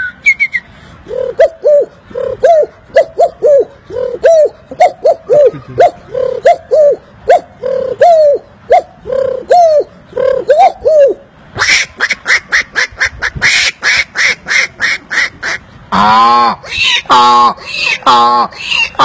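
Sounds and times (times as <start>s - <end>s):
man imitating animal calls: 1.0s - 19.0s.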